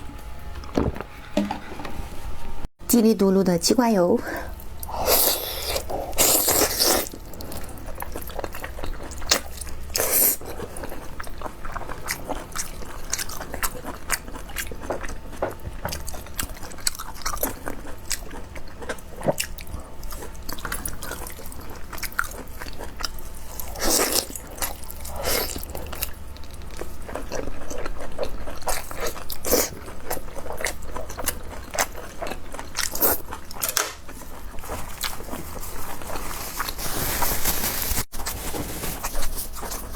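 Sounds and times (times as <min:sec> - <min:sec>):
person chewing food: 0:04.5 - 0:36.8.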